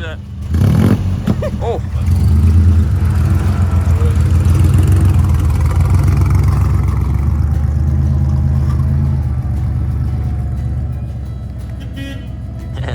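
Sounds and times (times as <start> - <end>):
off-road vehicle engine running: 0.0 - 12.9.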